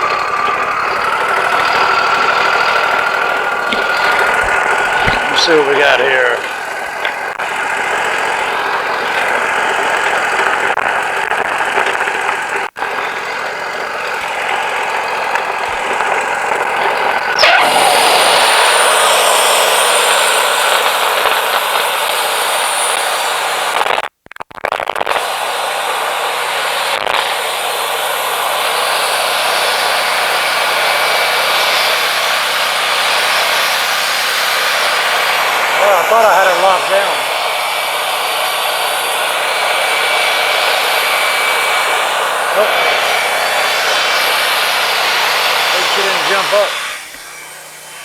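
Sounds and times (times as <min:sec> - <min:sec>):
band saw blade cutting log: 0:00.0 - 0:24.0, 0:25.0 - 0:48.0
engine droning: 0:00.0 - 0:24.1, 0:25.1 - 0:48.0.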